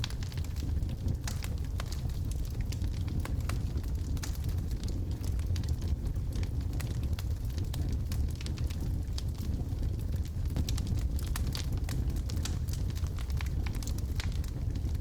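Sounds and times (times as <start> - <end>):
logs burning and crackling: 0.0 - 15.0.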